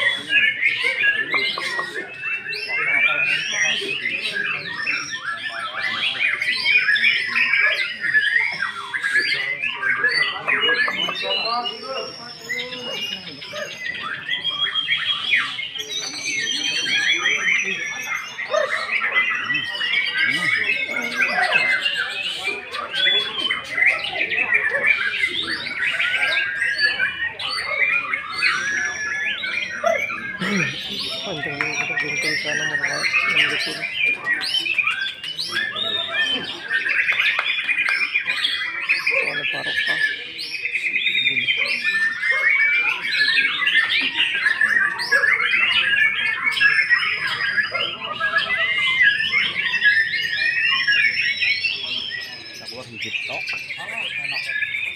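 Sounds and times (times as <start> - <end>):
songbird whistling and chirping: 0.0 - 54.9.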